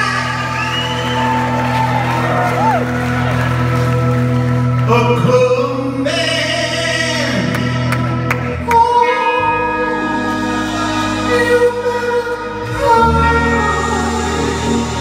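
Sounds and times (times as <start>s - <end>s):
lead vocal and harmony singing: 0.0s - 2.0s, 4.8s - 15.0s
live rock band playing: 0.0s - 15.0s.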